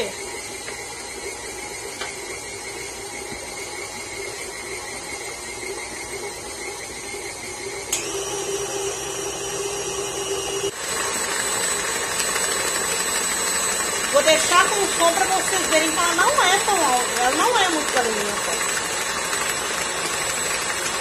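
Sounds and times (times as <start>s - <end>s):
stand mixer motor whine: 0.0s - 21.0s.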